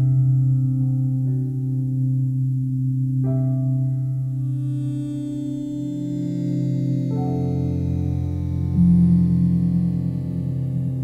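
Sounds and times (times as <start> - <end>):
ambient music sustained notes: 0.0 - 11.0.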